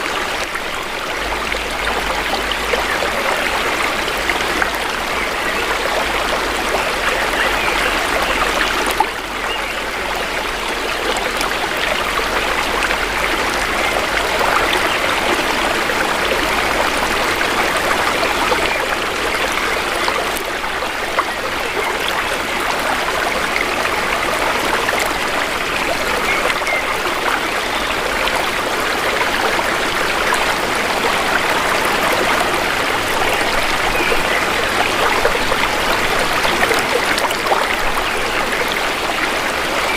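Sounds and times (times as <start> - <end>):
shallow river flowing: 0.0 - 39.9.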